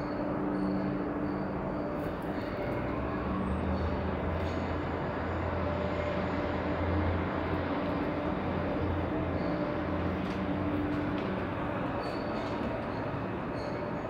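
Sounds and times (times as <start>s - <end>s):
transit vehicle rumble and hum: 0.0s - 14.0s.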